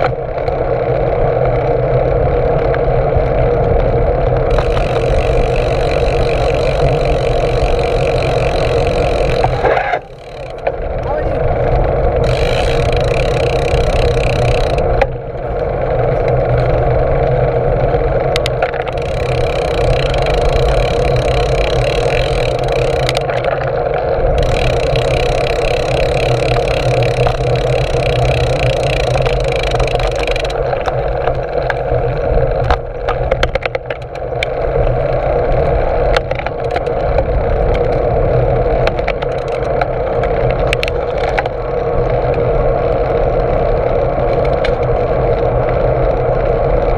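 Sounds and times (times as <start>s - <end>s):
bicycle rattles and knocks: 0.0s - 46.9s
bicycle tyre rumble: 0.0s - 46.9s
wind: 0.0s - 46.9s.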